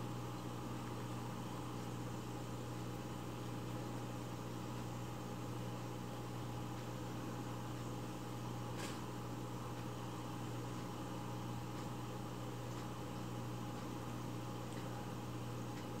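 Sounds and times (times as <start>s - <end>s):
low mechanical hum with hiss: 0.0s - 16.0s.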